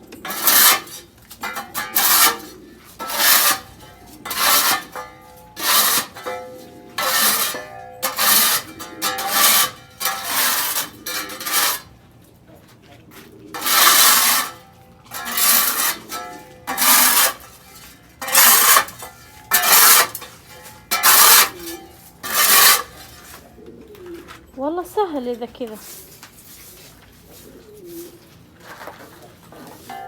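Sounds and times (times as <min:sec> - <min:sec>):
hand tool scraping floor: 0:00.1 - 0:12.0, 0:13.6 - 0:23.5, 0:25.7 - 0:30.0.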